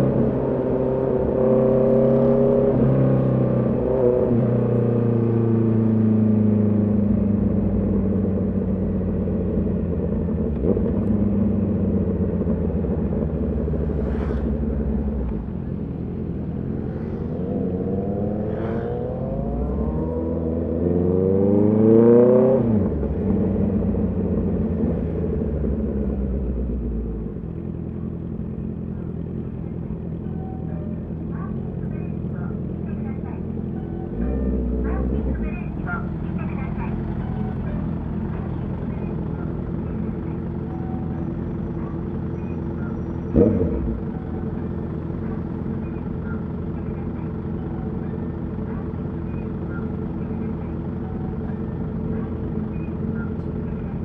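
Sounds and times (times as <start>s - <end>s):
motorcycle engine revving: 0.0s - 30.2s, 31.3s - 54.0s.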